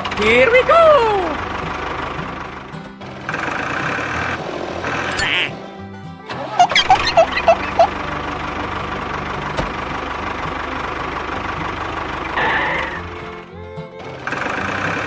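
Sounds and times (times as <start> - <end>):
mini tractor motor running: 0.0 - 15.0.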